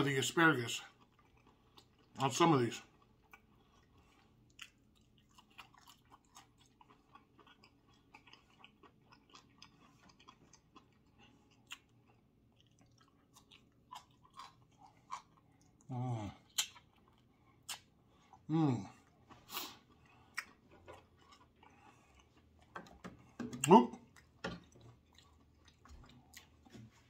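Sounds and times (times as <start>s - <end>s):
man chewing and mouth clicks: 0.9s - 27.0s.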